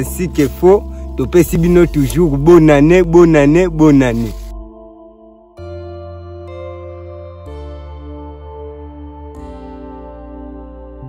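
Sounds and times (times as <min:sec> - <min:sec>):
soft held chords: 0:00.0 - 0:11.0.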